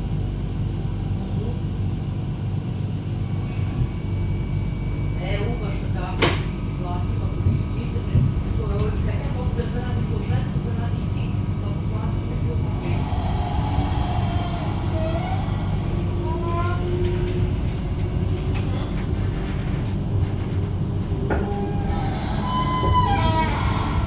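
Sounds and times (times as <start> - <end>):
tram wheels and drive rumbling: 0.0 - 24.0.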